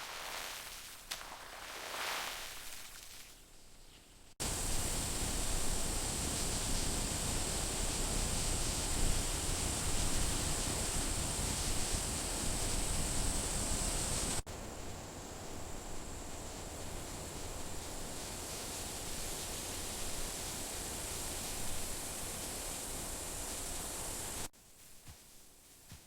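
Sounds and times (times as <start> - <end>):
steady rushing hiss: 3.5 - 26.0.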